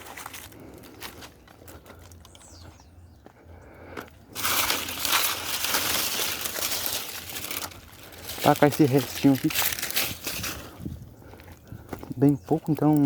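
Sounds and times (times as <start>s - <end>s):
dry branches and leaves crunching: 0.0s - 2.8s, 3.9s - 13.0s.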